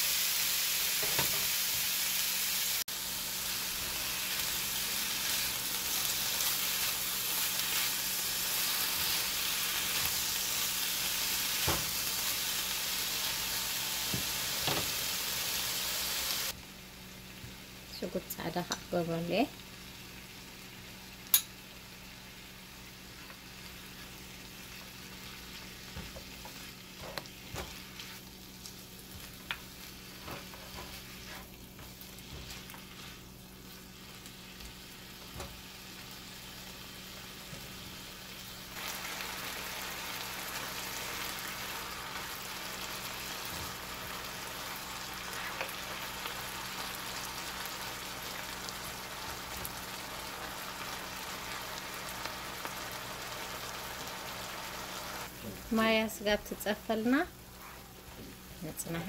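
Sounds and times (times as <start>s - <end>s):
meat sizzling in a frying pan: 0.0s - 58.9s.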